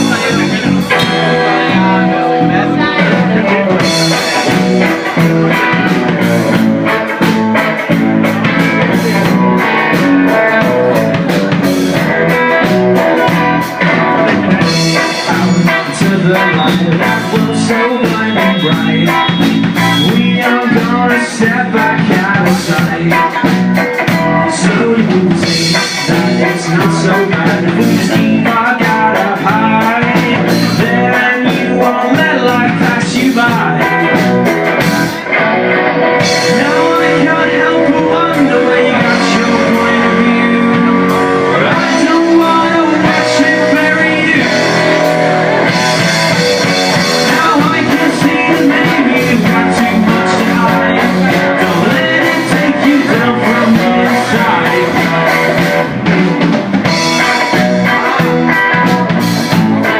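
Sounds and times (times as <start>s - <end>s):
person singing: 0.0s - 35.4s, 36.2s - 59.9s
drum kit: 0.0s - 59.9s
electric guitar: 0.0s - 59.9s.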